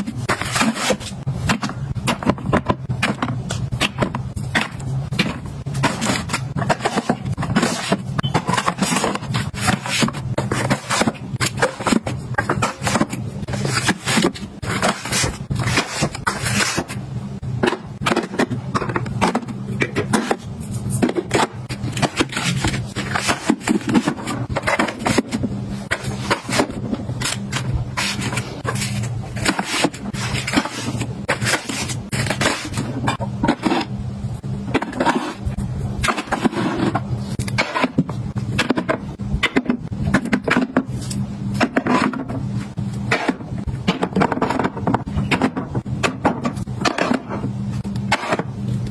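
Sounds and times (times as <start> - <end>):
tins scraping on shelves: 0.0 - 34.0, 34.7 - 47.5
steady low hum: 0.0 - 48.9.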